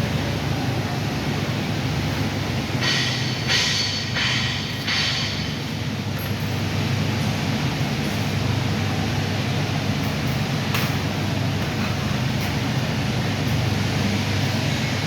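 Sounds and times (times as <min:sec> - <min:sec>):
welding equipment electrical hum: 0:00.0 - 0:15.0.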